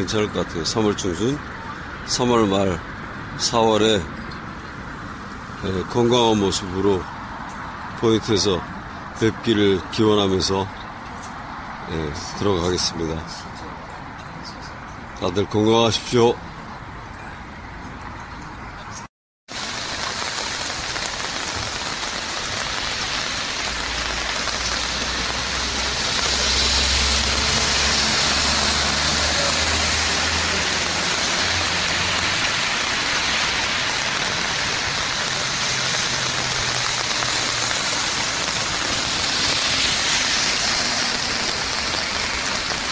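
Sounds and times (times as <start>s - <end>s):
passing traffic engine rumble: 0.0s - 42.9s
rain on wet street: 0.0s - 42.9s.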